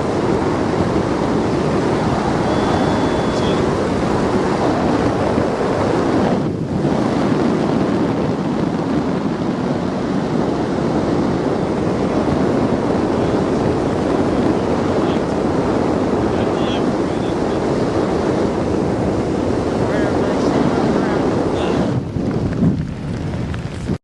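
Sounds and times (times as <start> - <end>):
heavy wind rushing over microphone: 0.0 - 24.0.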